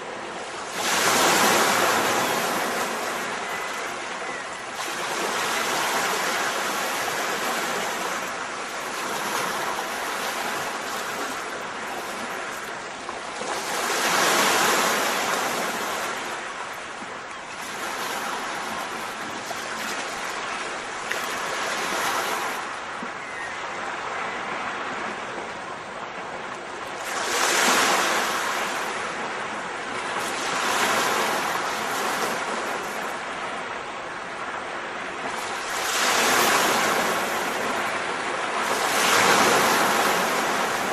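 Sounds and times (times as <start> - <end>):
surf rushing: 0.0 - 12.7, 17.7 - 40.9.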